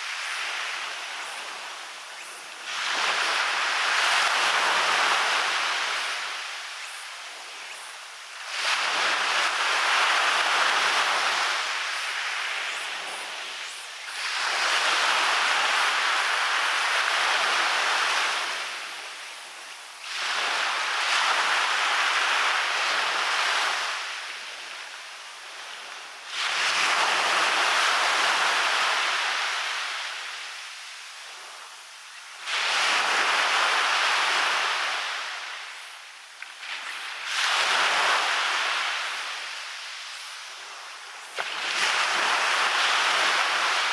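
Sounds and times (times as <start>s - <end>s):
waves breaking on beach: 0.0s - 43.9s.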